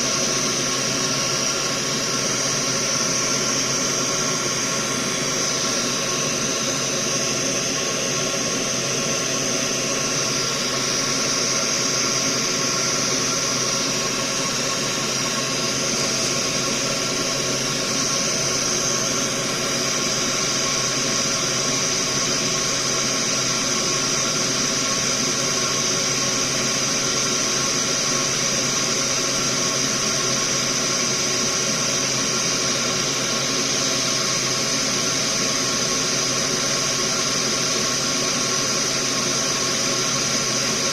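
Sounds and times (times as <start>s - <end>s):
electric fan whirring: 0.0s - 40.9s.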